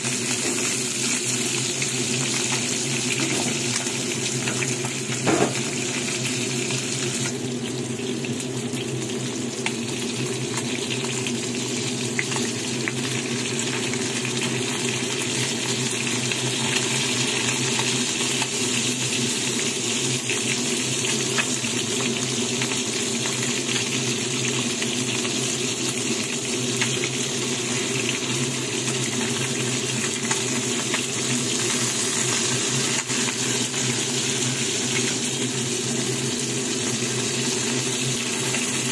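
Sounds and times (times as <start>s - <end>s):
fish sizzling in hot oil: 0.0s - 38.9s.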